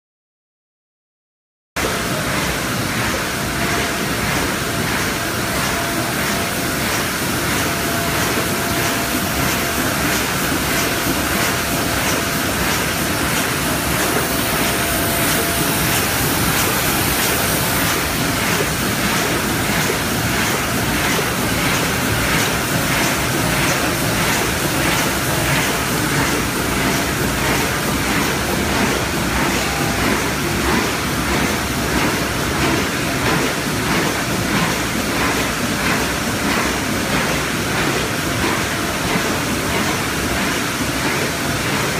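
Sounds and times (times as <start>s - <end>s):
continuous machine noise: 1.8s - 41.9s
rhythmic mechanical clatter: 1.8s - 41.9s.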